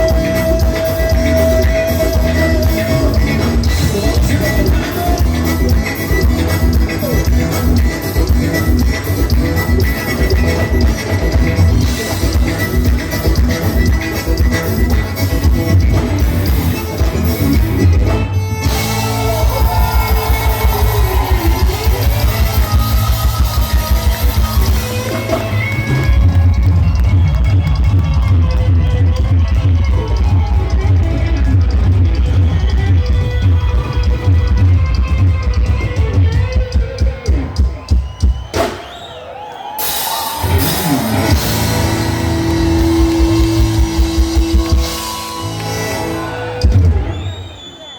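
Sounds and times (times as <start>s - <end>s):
fast bass beat: 0.0s - 36.3s, 39.9s - 47.1s
sliding lead melody: 0.0s - 37.4s, 39.8s - 47.1s
live band music: 0.0s - 47.8s.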